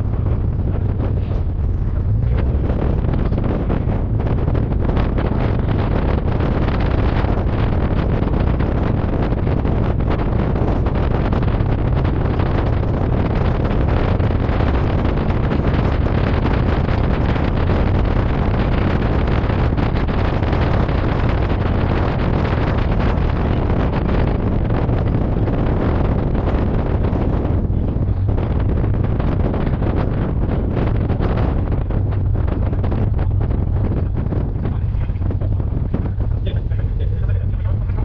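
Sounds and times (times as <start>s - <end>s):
road noise: 0.0s - 38.0s
wind buffeting the microphone: 0.0s - 38.0s.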